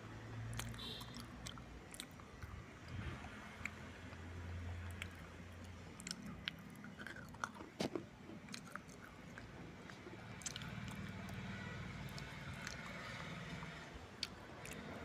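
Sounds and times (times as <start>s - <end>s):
moist chewing: 0.5s - 15.0s.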